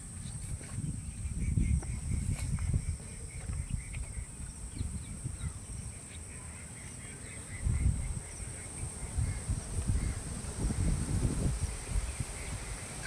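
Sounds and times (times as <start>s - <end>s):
wind rumbling on microphone: 0.0s - 13.0s
bird chirping: 0.2s - 13.0s.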